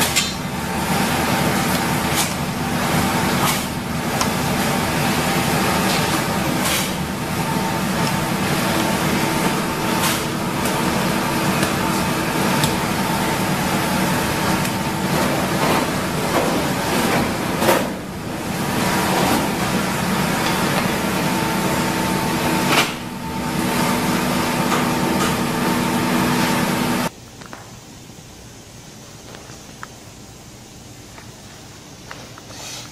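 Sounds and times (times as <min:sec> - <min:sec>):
machine humming: 0:00.0 - 0:32.8.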